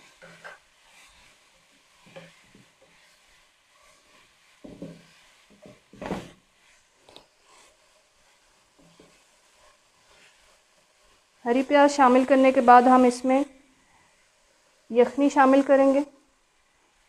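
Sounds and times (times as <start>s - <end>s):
spatula scraping a pan: 0.0s - 16.0s
faint sizzle: 0.0s - 17.0s.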